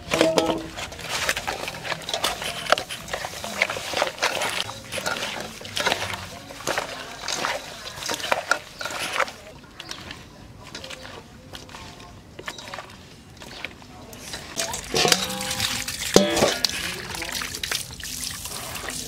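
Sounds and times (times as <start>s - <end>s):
hands churning eels with salt: 0.0s - 19.0s.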